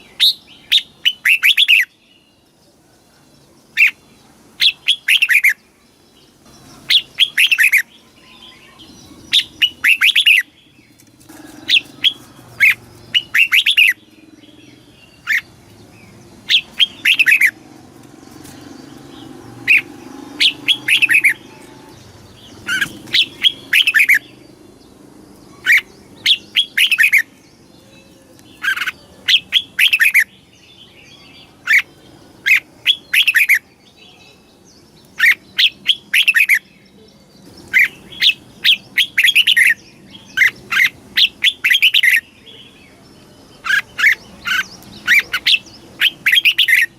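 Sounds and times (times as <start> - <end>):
bird singing whistled notes: 0.0 - 2.5, 4.6 - 5.6, 6.2 - 17.6, 18.4 - 24.6, 25.4 - 46.9.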